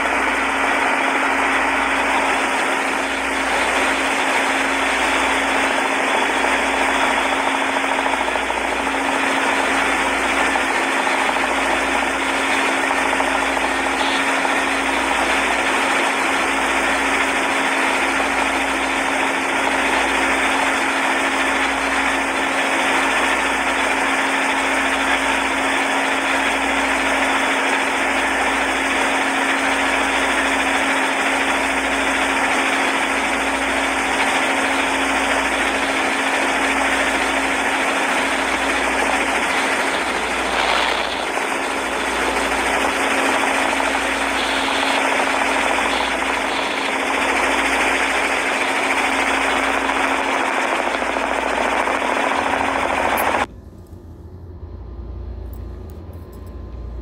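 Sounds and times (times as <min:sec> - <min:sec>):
motorboat engine running: 0:00.0 - 0:53.5.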